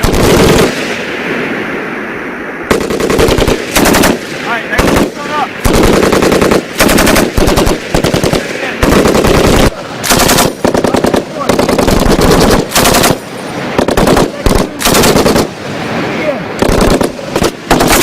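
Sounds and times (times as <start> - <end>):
machine gun bursts echoing: 0.0 - 0.8, 2.7 - 13.2, 13.8 - 15.5, 16.6 - 18.0.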